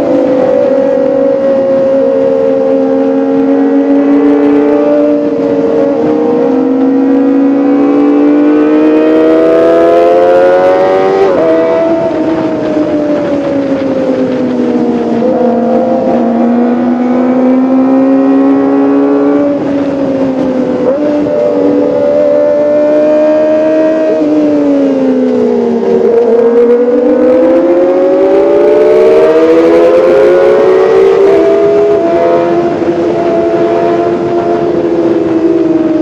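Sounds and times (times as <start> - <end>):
motorcycle engine revving high: 0.0 - 36.0.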